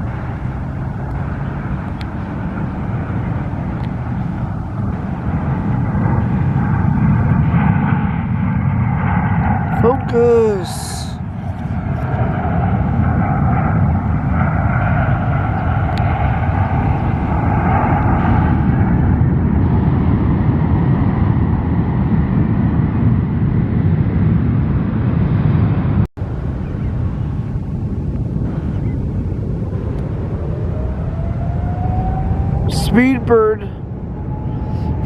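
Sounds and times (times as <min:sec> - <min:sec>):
high engine whine: 0:00.0 - 0:35.0
jet airliner engines rumbling: 0:00.0 - 0:35.0.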